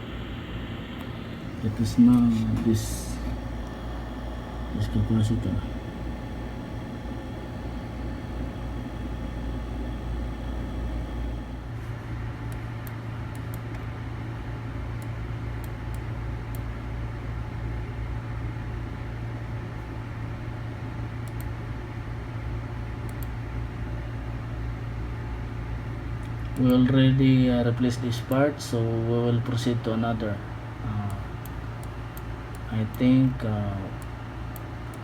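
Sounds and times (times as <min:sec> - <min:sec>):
electrical hum with fan noise: 0:00.0 - 0:35.0.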